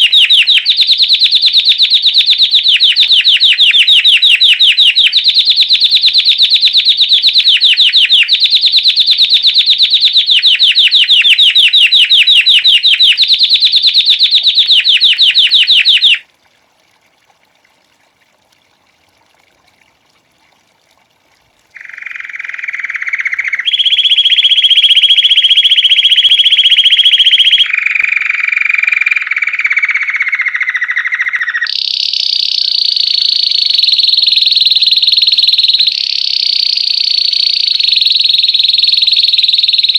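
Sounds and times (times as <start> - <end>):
canary singing trills: 0.0 - 16.2, 21.8 - 39.9.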